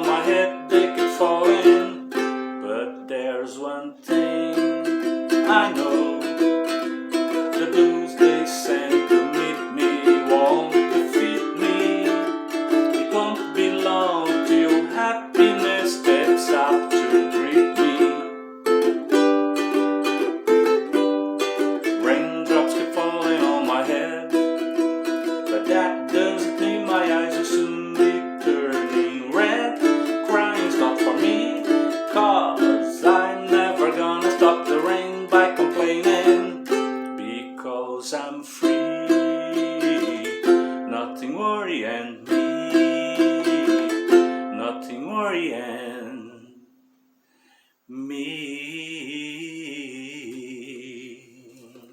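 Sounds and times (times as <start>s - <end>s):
solo ukulele playing: 0.0s - 3.4s, 4.0s - 37.6s, 38.5s - 45.2s.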